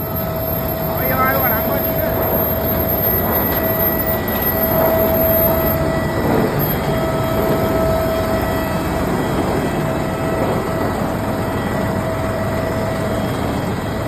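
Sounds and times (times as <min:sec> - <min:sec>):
constant machine whine: 0:00.0 - 0:14.0
road patching machine running: 0:00.0 - 0:14.0.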